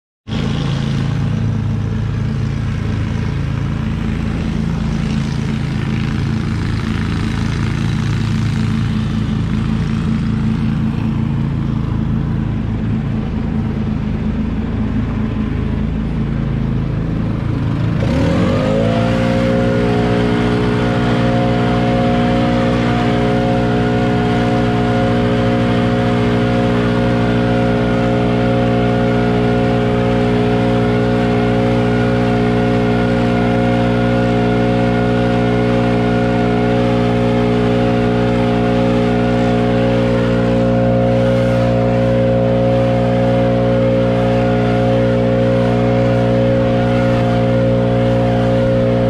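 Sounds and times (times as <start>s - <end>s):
mower engine running: 0.3s - 49.0s.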